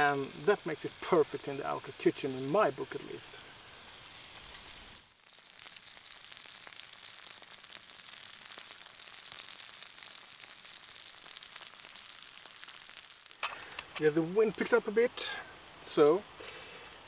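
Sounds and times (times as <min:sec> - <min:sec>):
food sizzling in a skillet: 0:00.0 - 0:17.0.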